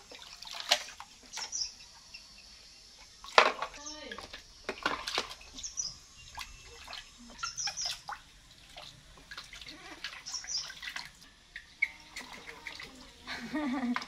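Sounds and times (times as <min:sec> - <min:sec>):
water splashing in plastic basin: 0:00.0 - 0:01.6, 0:03.2 - 0:14.0.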